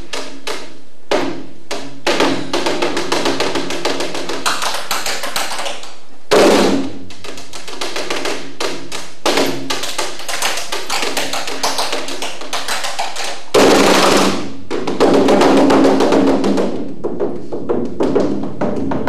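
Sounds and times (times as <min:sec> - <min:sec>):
rapid drumming: 0:00.0 - 0:19.0.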